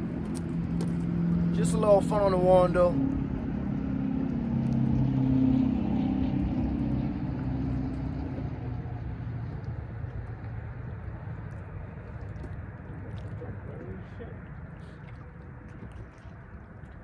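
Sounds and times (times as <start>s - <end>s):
passing engine hum: 0.0s - 17.0s.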